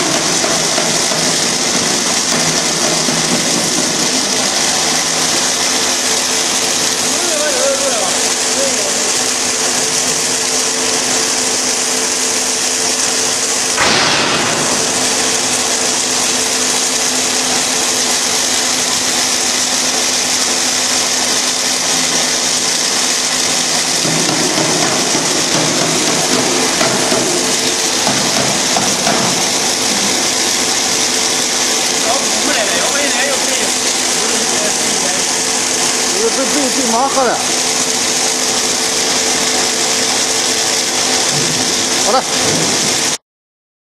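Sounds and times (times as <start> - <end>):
strong hiss: 0.0 - 10.8, 12.0 - 43.2
extruder machine humming: 0.0 - 43.2.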